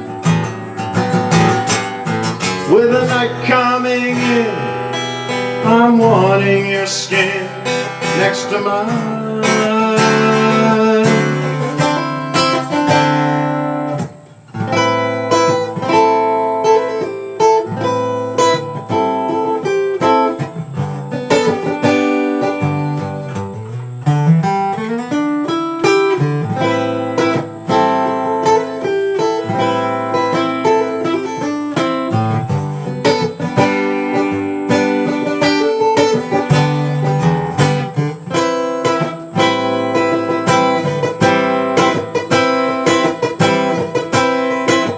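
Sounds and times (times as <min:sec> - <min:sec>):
acoustic guitar playing: 0:00.0 - 0:44.9.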